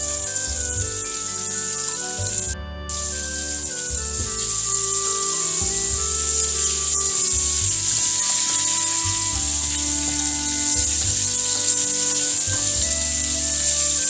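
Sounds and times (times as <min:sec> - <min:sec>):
background music: 0:00.0 - 0:14.0
fish sizzling in hot oil: 0:00.0 - 0:14.0.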